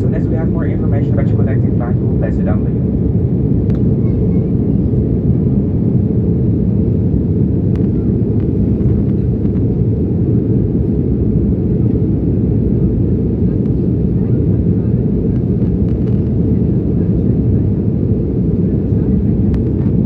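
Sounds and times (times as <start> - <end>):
airliner cabin roar in flight: 0.0 - 20.0.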